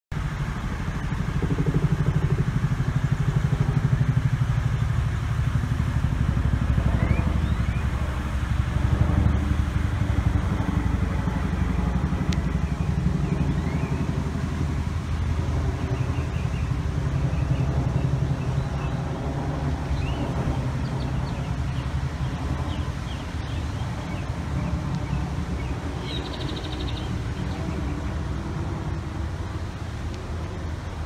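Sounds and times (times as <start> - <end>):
helicopter rotor blades beating: 0.1 - 31.0
low engine rumble: 0.1 - 31.0.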